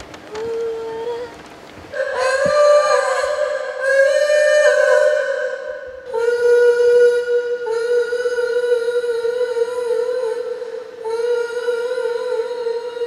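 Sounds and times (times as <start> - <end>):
person singing long steady notes: 0.2 - 13.0.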